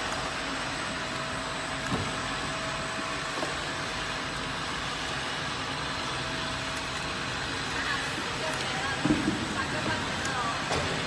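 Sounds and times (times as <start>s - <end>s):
bottling line machine noise: 0.0s - 11.0s
thin steady whine: 0.0s - 11.0s.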